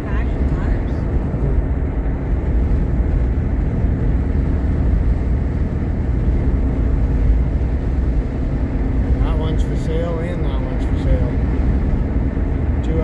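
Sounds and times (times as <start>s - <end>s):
engine drone: 0.0s - 13.0s
tire and road noise: 0.0s - 13.0s.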